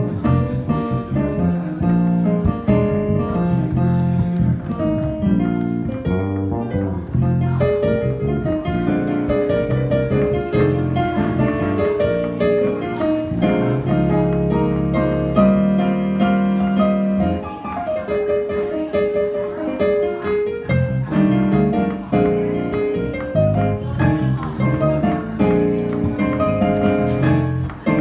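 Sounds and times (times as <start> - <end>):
jazz piano: 0.0 - 28.0.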